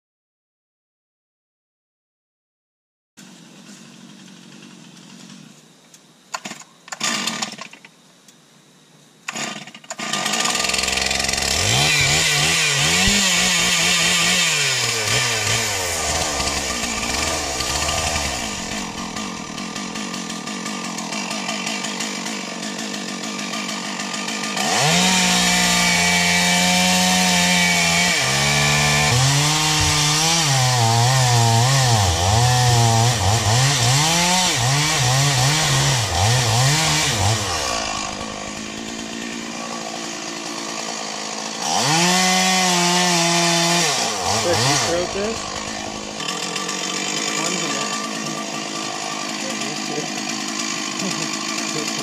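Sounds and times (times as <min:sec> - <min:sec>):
chainsaw cutting into tree trunk: 0:06.4 - 0:07.8, 0:09.3 - 0:52.0
chainsaw revving: 0:06.9 - 0:07.7, 0:09.3 - 0:52.0.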